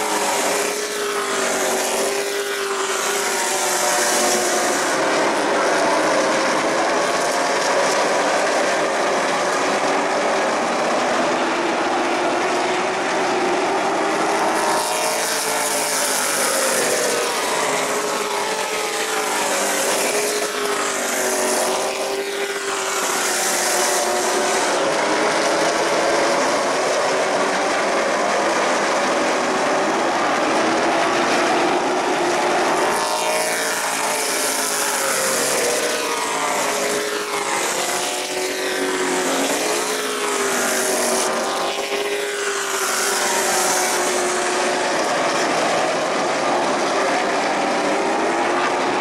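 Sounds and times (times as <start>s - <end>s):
race car engines droning: 0.0s - 49.0s
race cars passing by: 0.0s - 49.0s.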